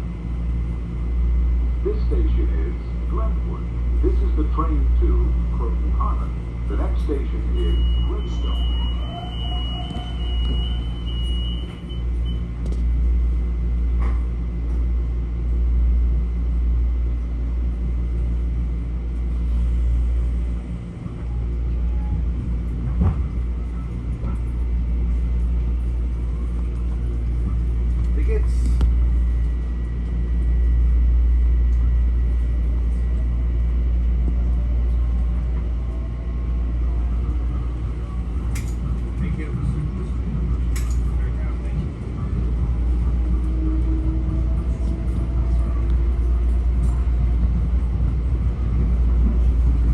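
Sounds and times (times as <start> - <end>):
train rumbling along track: 0.0 - 49.9.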